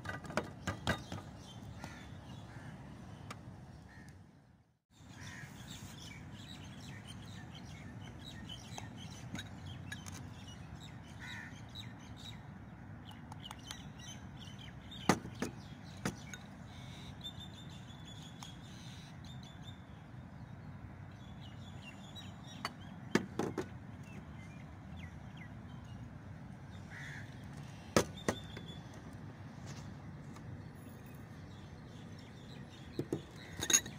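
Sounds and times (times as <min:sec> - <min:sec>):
outdoor background noise: 0:00.0 - 0:33.9
birds calling: 0:00.2 - 0:33.9.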